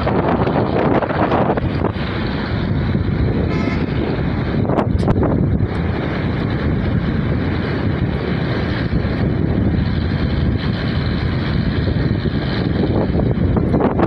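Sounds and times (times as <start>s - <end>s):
vehicle rumbling on road: 0.0s - 14.0s
wind buffeting microphone: 0.0s - 14.0s.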